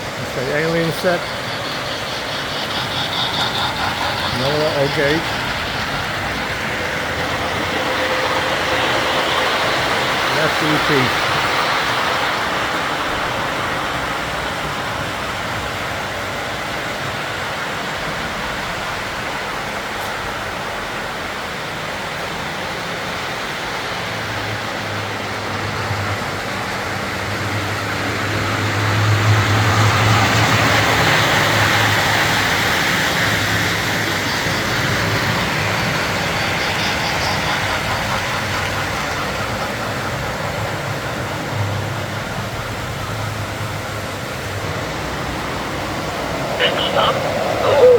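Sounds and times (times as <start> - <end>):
model train wheels rumbling on track: 0.0 - 47.9.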